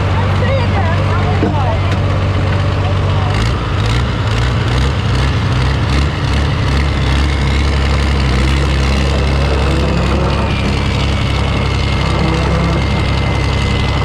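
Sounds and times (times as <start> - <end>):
heavy engine rumbling: 0.0 - 14.0.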